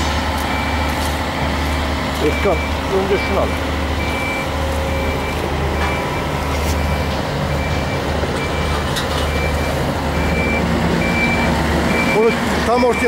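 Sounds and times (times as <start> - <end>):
crane diesel engine running: 0.0 - 13.0
high-pitched warning alarm beeping: 0.0 - 13.0.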